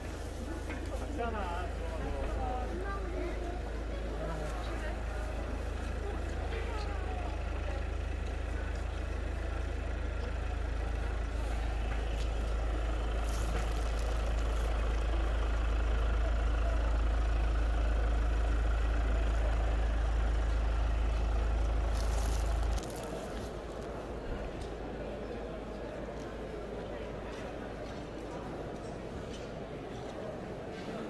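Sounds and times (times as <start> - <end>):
faint background hubbub: 0.0 - 31.0.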